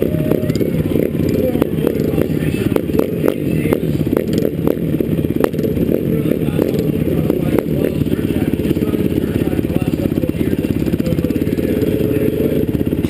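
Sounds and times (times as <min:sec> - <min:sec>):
motorcycle engines idling: 0:00.0 - 0:13.0.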